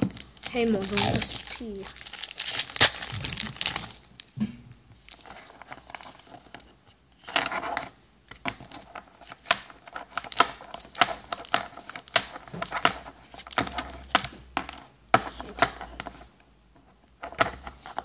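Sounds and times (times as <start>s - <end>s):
cards rustling: 0.0s - 4.4s, 5.0s - 16.4s.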